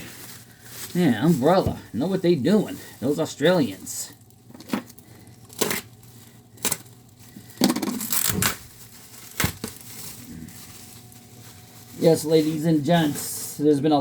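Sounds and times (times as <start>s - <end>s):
packaging tearing crinkle: 0.0s - 13.3s
packaging rustling: 0.0s - 13.6s.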